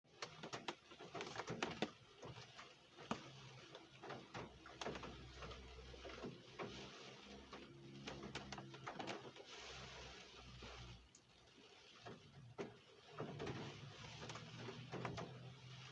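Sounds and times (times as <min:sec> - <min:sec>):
raindrops tapping hard surface: 0:00.1 - 0:15.9.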